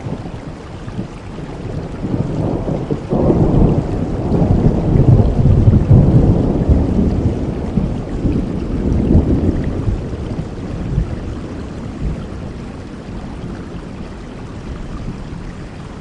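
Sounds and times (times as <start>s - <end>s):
steady rainfall: 0.0s - 16.0s
thunder rumbling: 0.0s - 16.0s.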